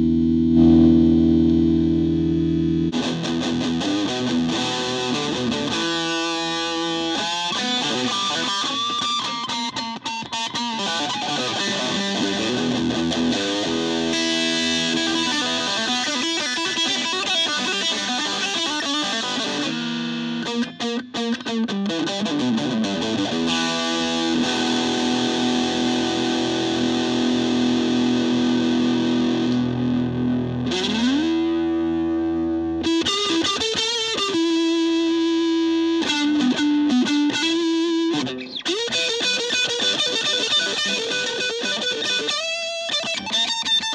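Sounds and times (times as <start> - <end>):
electric guitar chords: 0.0 - 43.9.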